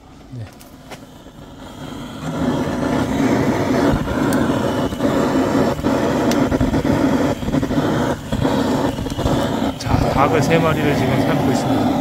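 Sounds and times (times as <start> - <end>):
gas torch flame rushing: 0.0 - 12.0.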